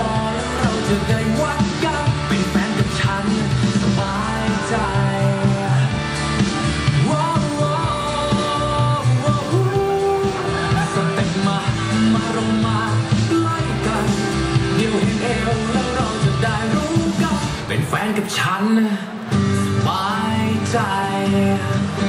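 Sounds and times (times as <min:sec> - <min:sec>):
pop song over loudspeakers: 0:00.0 - 0:22.0.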